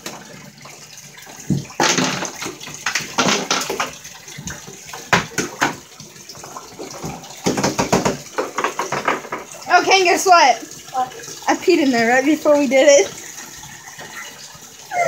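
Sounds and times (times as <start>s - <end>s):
water splashing in bathtub: 0.0s - 15.0s.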